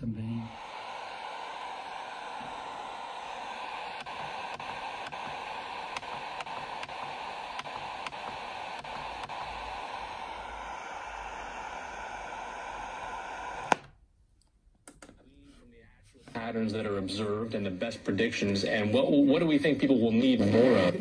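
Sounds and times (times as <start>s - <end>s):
radio static hiss: 0.0s - 13.9s, 16.3s - 21.0s.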